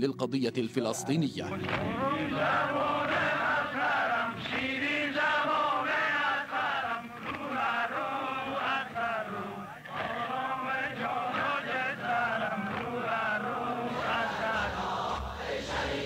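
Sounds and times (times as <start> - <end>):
crowd of men chanting: 1.7 - 16.0.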